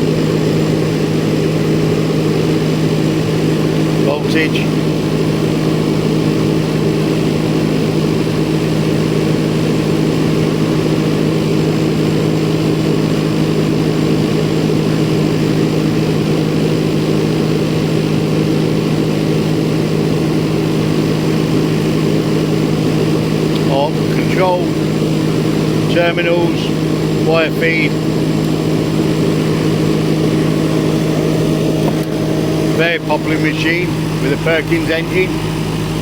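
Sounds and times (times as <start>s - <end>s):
generator diesel engine humming: 0.0s - 36.0s.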